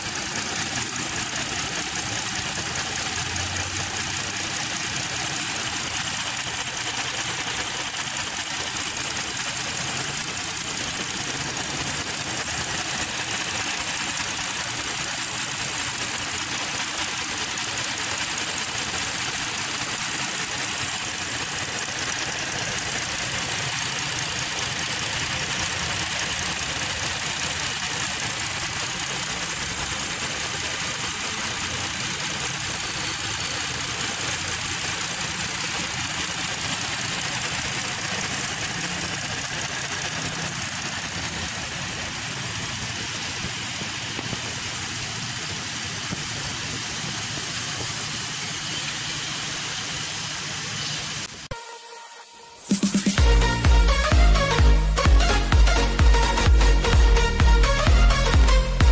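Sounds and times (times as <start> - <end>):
car engine idling: 0.0 - 51.6, 52.7 - 58.9.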